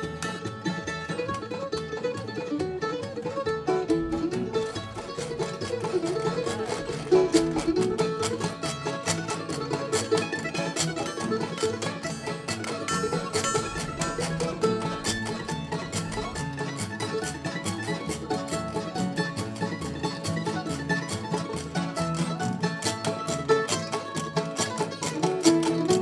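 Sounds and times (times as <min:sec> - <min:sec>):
bluegrass banjo and guitar: 0:00.0 - 0:26.0.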